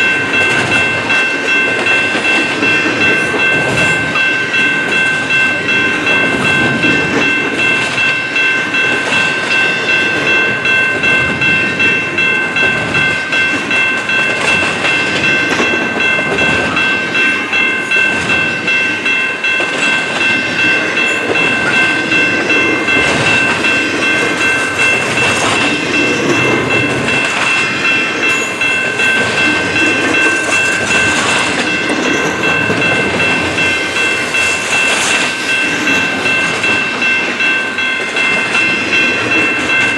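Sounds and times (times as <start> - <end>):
train wheels rumbling and clacking: 0.0 - 39.9.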